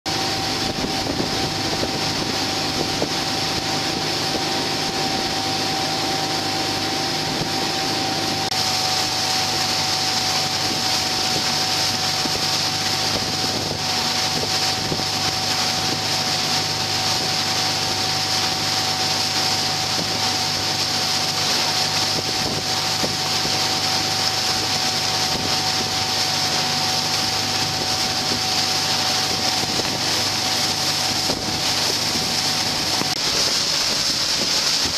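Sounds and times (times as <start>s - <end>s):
boat engines droning: 0.1s - 34.9s
high whine: 0.1s - 34.9s
rush of wind and water: 0.1s - 34.9s.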